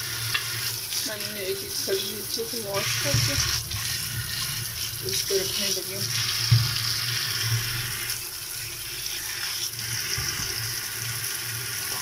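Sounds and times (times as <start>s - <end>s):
tap water running into metal bowl: 0.0s - 12.0s.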